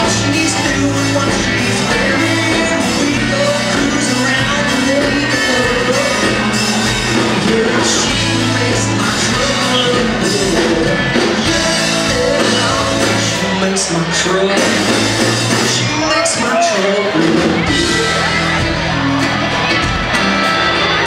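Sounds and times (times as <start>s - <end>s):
man singing into a microphone: 0.0s - 14.9s, 15.6s - 18.4s
country rock band playing: 0.0s - 21.0s
drums: 0.0s - 21.0s.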